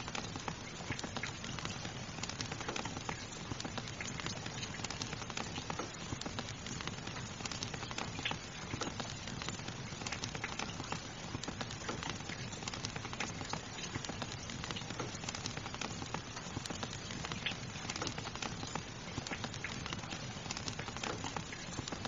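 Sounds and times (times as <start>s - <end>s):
fire crackling: 0.0s - 22.0s
rain hissing: 0.0s - 22.0s.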